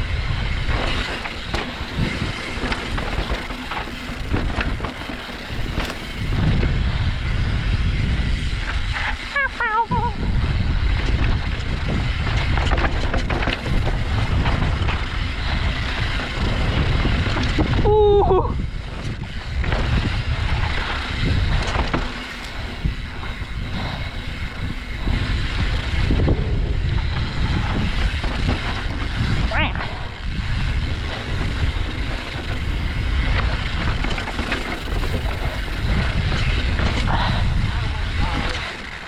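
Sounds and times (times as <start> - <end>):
bike knocks and rattles: 0.0 - 39.0
bike tyres rumbling on dirt: 0.0 - 39.0
wind rushing over microphone: 0.0 - 39.0.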